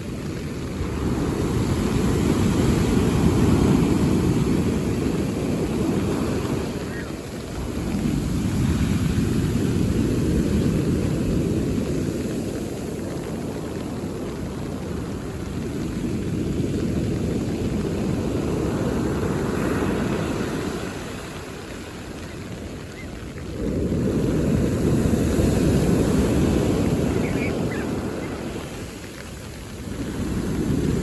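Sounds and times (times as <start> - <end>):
sea waves breaking on a beach: 0.0 - 31.0.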